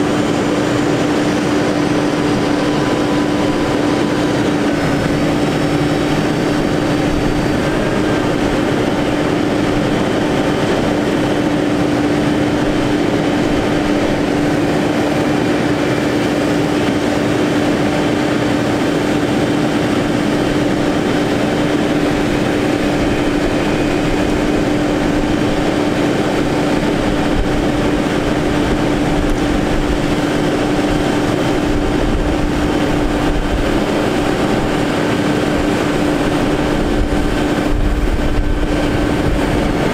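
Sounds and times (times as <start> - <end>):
diesel engine running: 0.0 - 39.9
steady humming tone: 0.0 - 39.9.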